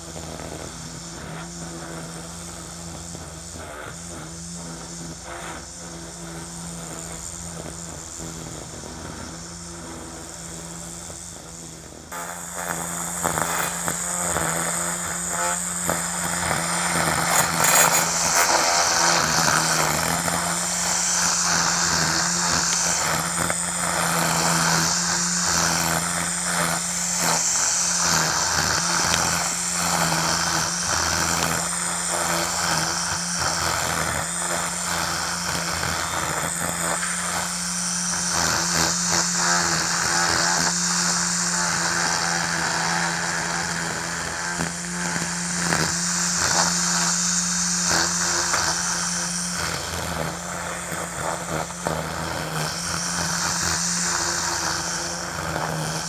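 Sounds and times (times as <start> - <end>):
string trimmer cutting grass: 0.0 - 56.0.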